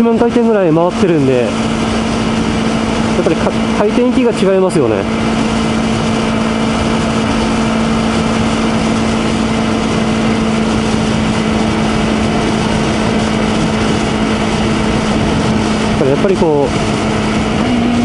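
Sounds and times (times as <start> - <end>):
motorcycle engine cruising: 0.0 - 18.0
wind noise: 0.0 - 18.0.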